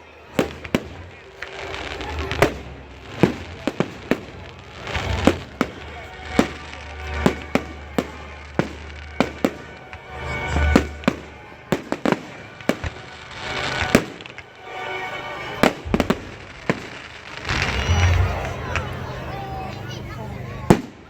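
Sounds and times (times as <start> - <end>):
fireworks bangs and pops: 0.2 - 19.0, 20.7 - 21.0.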